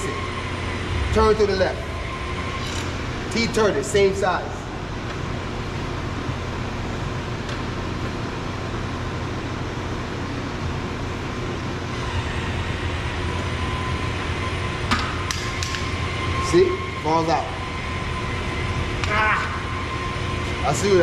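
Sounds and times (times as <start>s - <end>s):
faint whine: 0.0s - 21.0s
steady rumbling: 0.0s - 21.0s.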